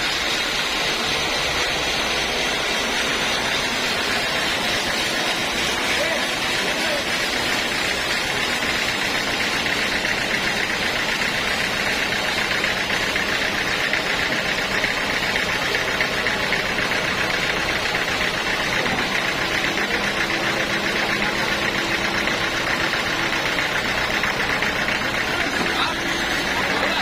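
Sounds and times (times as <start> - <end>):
sawmill machinery running: 0.0 - 27.0.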